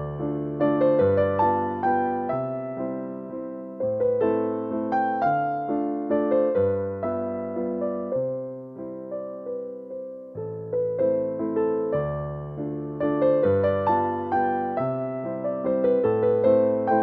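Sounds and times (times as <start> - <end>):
keyboard melody over chords: 0.0 - 17.0.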